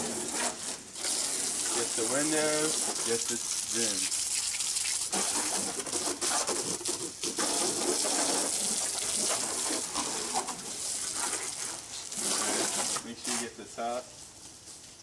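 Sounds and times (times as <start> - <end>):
hose spraying water on car: 0.0 - 14.0.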